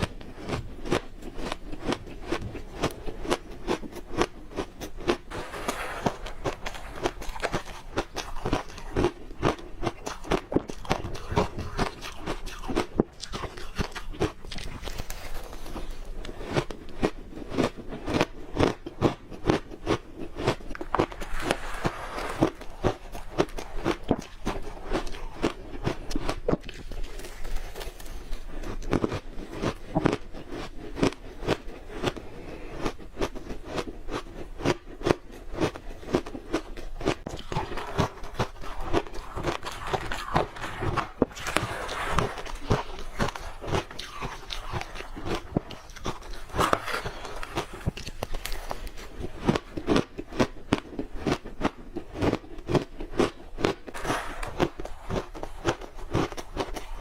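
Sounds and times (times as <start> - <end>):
ice crunching being chewed: 0.0 - 5.3, 6.8 - 57.0.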